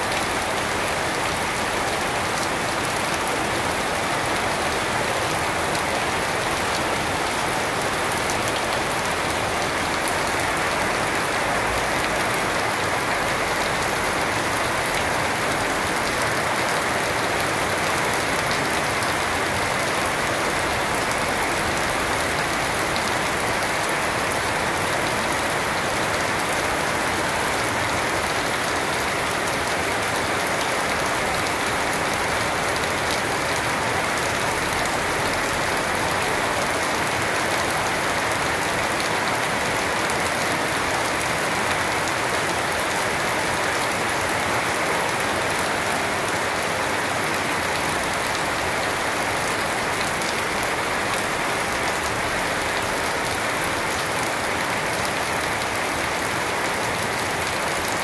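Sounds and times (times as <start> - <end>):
heavy rain on plants: 0.0 - 58.0.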